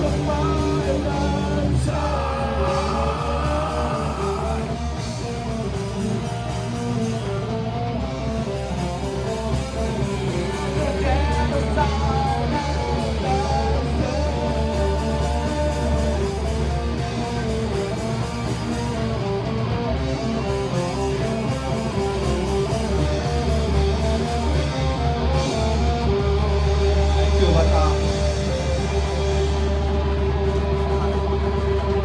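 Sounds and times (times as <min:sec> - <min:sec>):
electric guitars: 0:00.0 - 0:32.0
low bass: 0:00.0 - 0:32.0.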